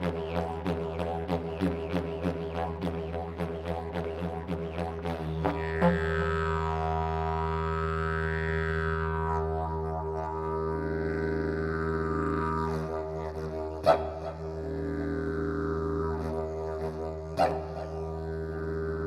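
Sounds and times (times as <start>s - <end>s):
didgeridoo droning: 0.0s - 19.0s.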